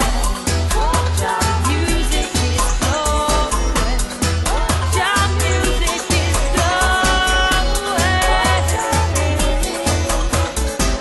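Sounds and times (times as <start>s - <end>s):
upbeat pop music: 0.0s - 11.0s.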